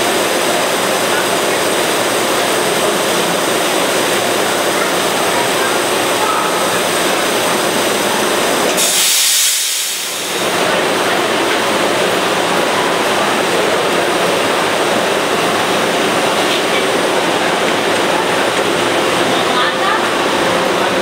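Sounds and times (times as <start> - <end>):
loud hiss from train: 0.0 - 18.9
train idling at platform: 0.0 - 21.0.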